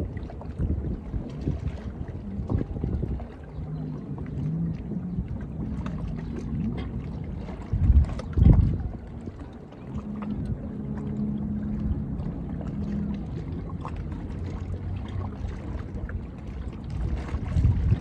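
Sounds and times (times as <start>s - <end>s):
low steady hum: 0.0s - 18.0s
small waves lapping against rocks: 0.0s - 18.0s.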